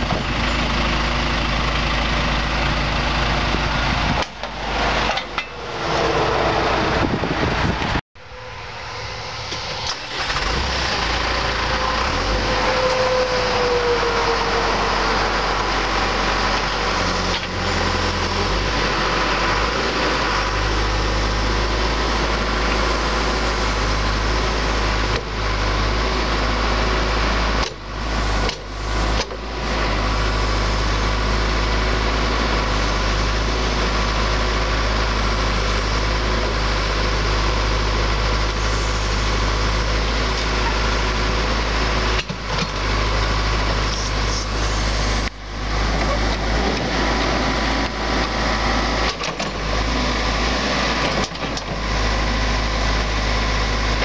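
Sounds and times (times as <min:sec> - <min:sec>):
diesel engine running: 0:00.0 - 0:54.0
backhoe digging soil: 0:09.4 - 0:54.0.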